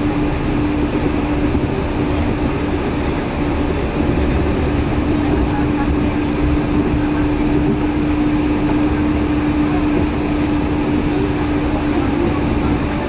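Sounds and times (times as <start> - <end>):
train interior rumble and hum: 0.0 - 13.0.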